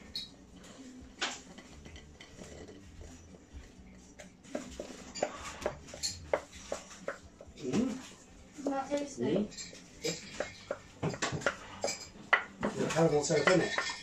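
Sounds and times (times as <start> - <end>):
utensil scraping a glass bowl: 0.0 - 8.9, 9.5 - 14.0.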